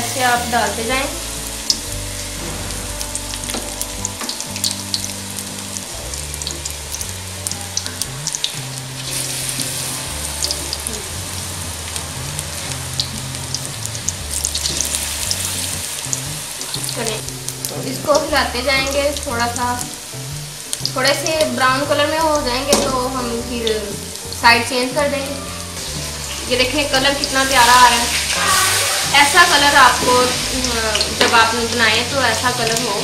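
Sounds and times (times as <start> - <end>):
batter deep-frying in oil: 0.0 - 33.0.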